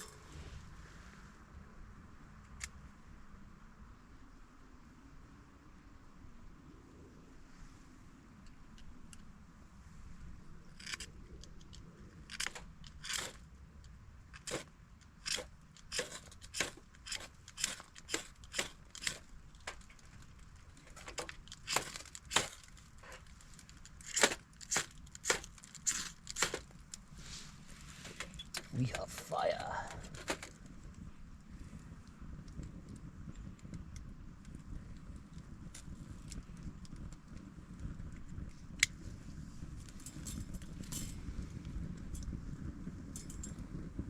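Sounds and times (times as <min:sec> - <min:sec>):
campfire crackling: 0:00.0 - 0:03.6, 0:07.1 - 0:44.0.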